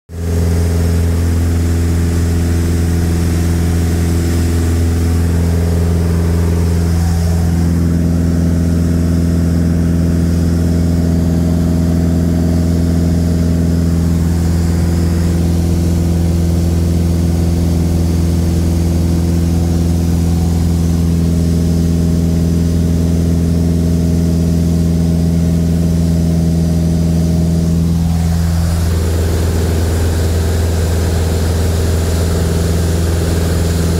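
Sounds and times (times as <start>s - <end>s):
propeller airplane cabin drone: 0.1s - 33.9s.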